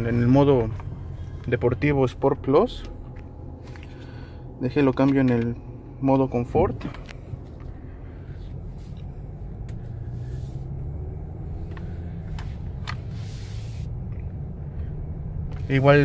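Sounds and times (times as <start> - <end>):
car engine rumble from inside: 0.0 - 16.0.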